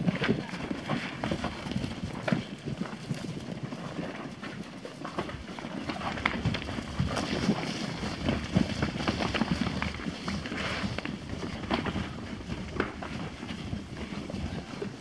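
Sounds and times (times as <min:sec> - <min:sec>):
cow hoofbeats on grass: 0:00.0 - 0:15.0.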